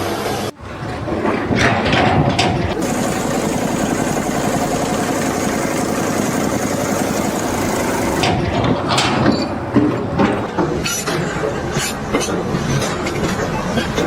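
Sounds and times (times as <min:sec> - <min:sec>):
machine running: 0:00.0 - 0:14.0
knocks and clatter: 0:00.6 - 0:14.0.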